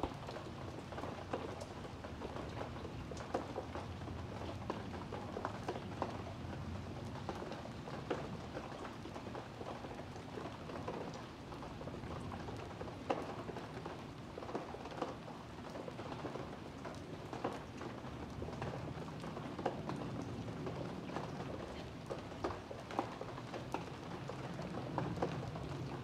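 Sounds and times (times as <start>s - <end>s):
rain falling on brick pavers: 0.0s - 26.0s.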